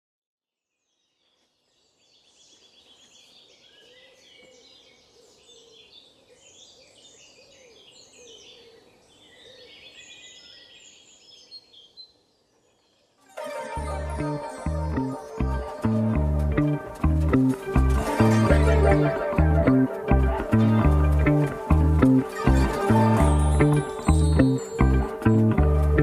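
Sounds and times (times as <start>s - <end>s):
birds chirping and singing: 2.2s - 26.0s.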